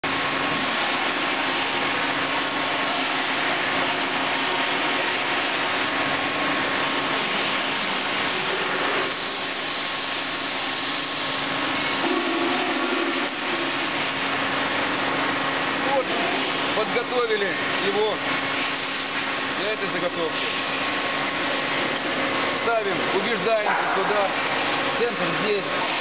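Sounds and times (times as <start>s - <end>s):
machine hum and whir: 0.0s - 26.0s.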